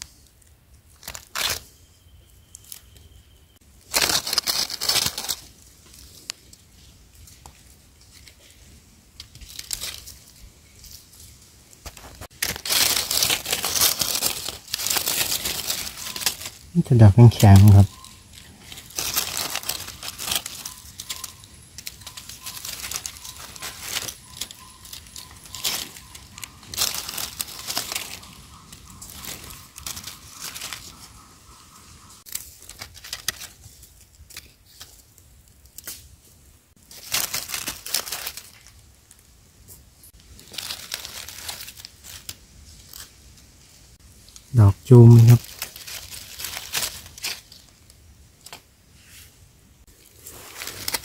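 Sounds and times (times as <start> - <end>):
dry leaves rustling and crackling: 0.0 - 49.2, 49.9 - 51.0.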